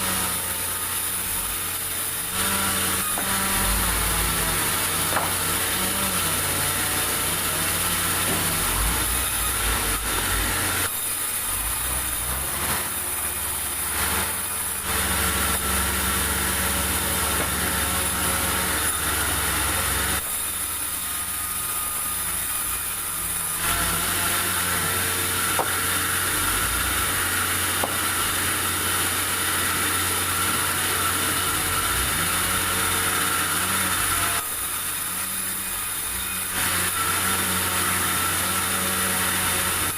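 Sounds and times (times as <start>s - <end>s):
high saw hiss cutting wood: 0.0s - 39.9s
sawmill engine droning: 0.0s - 39.9s.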